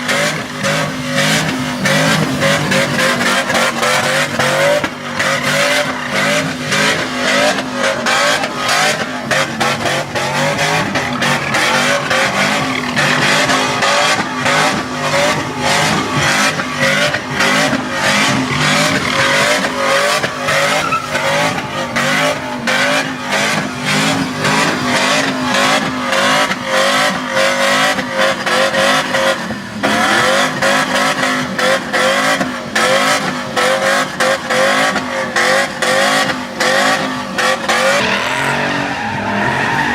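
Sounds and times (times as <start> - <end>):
tires spinning and squealing: 0.0 - 39.9
truck engines revving hard: 0.0 - 39.9.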